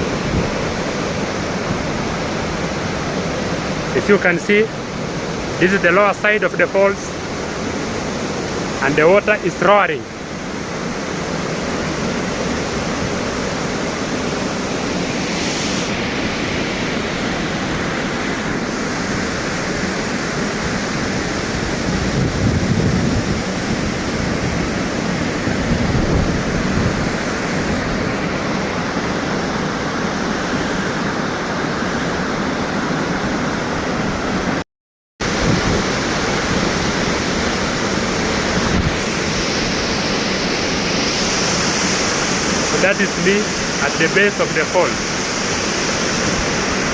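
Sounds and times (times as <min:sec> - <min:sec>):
waterfall roaring: 0:00.0 - 0:34.6, 0:35.2 - 0:46.9.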